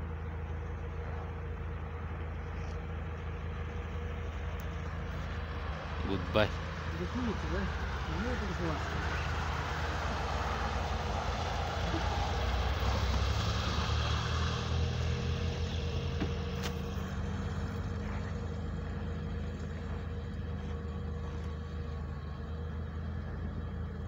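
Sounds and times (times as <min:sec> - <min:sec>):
van engine driving away: 0:00.0 - 0:24.0.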